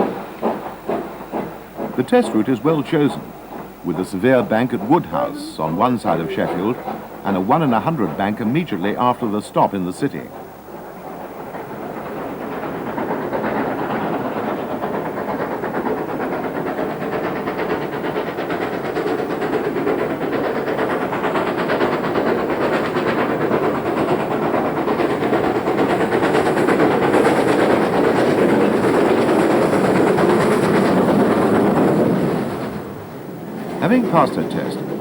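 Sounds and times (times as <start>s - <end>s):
locomotive running gear: 0.0s - 35.0s
steam locomotive exhaust: 0.0s - 35.0s.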